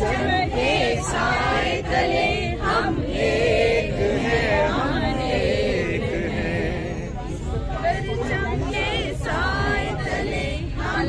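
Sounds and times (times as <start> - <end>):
crowd chanting: 0.0 - 11.0.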